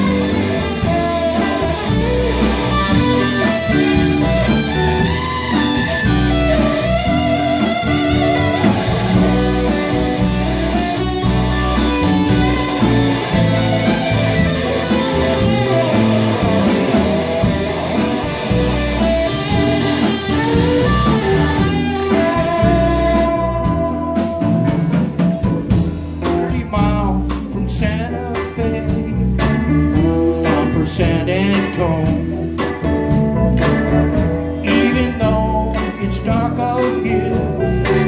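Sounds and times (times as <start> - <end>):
bent guitar lead line: 0.0 - 38.0
live rock band playing: 0.0 - 38.0.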